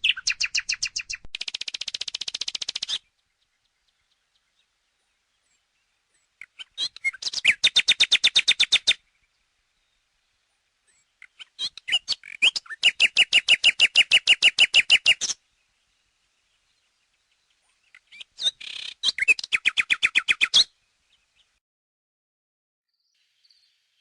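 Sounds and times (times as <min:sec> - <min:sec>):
nightingale singing: 0:00.0 - 0:21.6.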